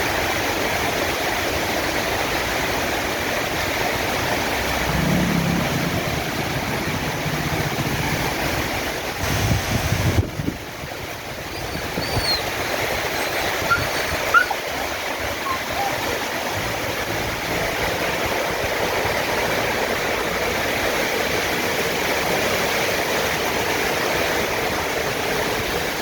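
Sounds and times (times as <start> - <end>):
storm rain: 0.0 - 26.0
wind: 0.0 - 26.0.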